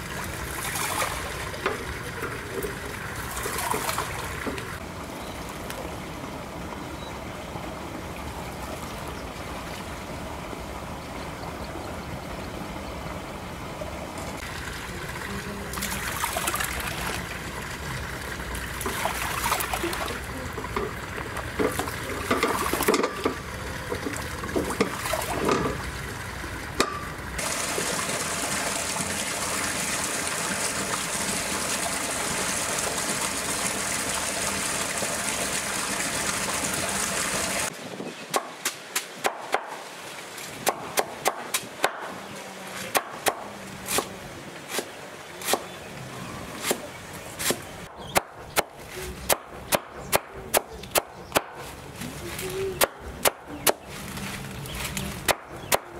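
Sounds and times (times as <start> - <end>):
running water rushing: 0.0 - 48.0
water splashing and trickling: 0.0 - 48.0.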